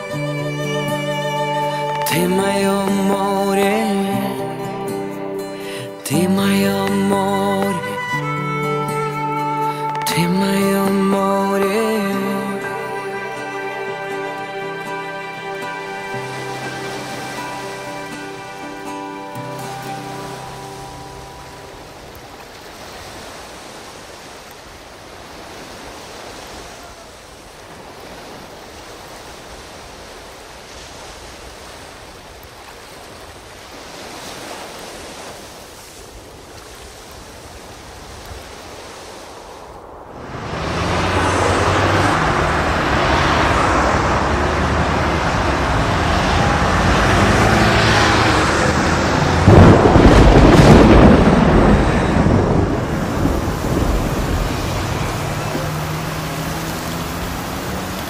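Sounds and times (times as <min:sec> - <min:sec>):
sea surf: 0:00.0 - 0:58.0
wind: 0:00.0 - 0:58.0.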